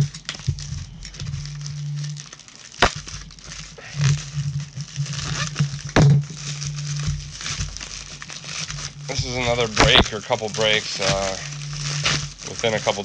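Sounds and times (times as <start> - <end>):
plastic mailer crinkling: 0.0 - 13.0.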